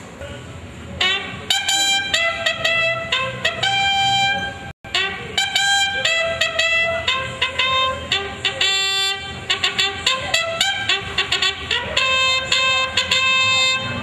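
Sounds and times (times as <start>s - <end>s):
brass band playing: 1.0s - 14.0s.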